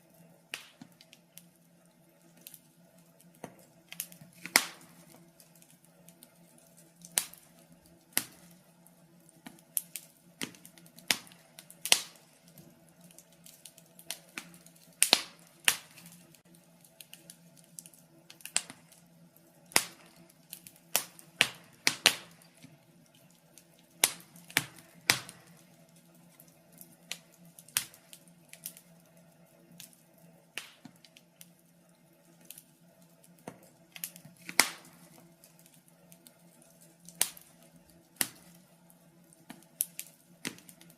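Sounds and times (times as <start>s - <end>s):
faint steady hum: 0.0s - 40.9s
wood fire crackling and popping: 0.0s - 40.9s.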